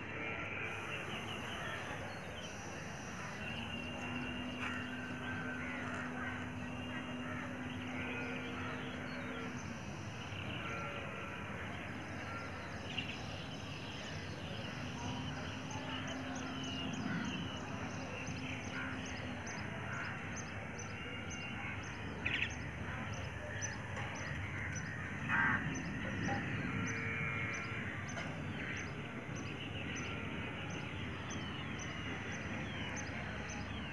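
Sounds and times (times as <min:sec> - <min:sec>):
birds calling: 0:00.0 - 0:33.9.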